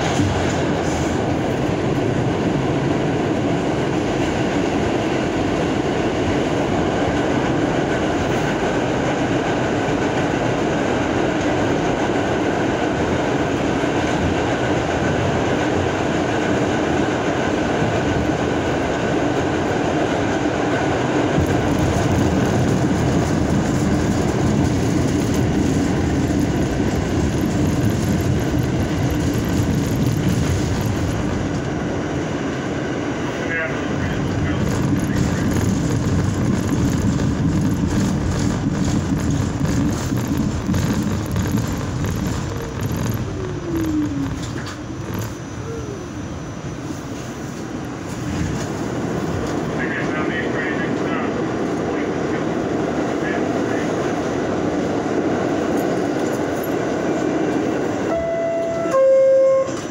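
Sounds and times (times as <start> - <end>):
subway train rumbling in tunnel: 0.0 - 59.9
wheels clickety-clack on rails: 0.0 - 59.9.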